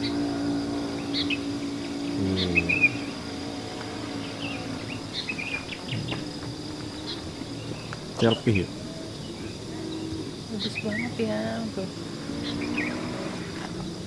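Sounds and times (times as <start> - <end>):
high insect drone: 0.0 - 14.0
low hum: 0.0 - 14.0
small birds chirping: 0.0 - 14.0.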